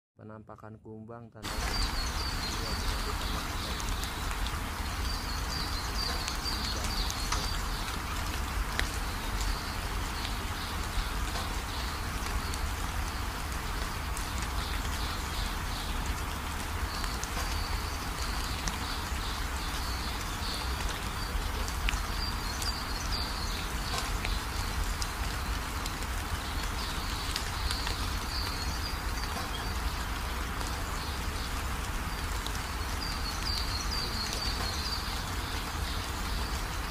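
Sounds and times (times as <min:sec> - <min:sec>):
steady hiss: 0:01.4 - 0:36.9.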